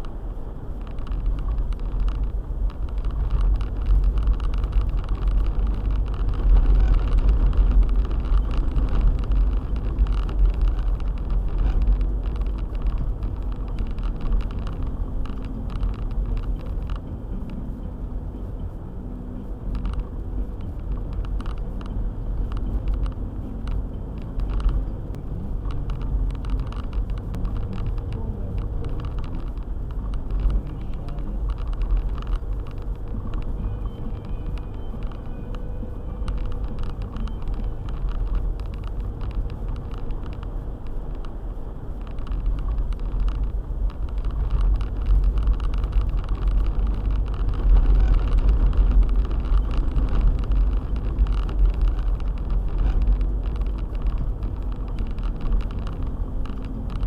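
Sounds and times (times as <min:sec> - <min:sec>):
car driving on snowy road: 0:00.0 - 0:57.0
small ticks and knocks: 0:00.8 - 0:17.6, 0:19.6 - 0:57.0.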